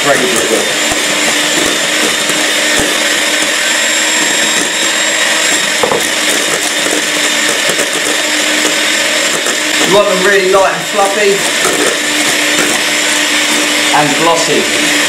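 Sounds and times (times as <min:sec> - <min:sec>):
hand mixer whirring: 0:00.0 - 0:15.0.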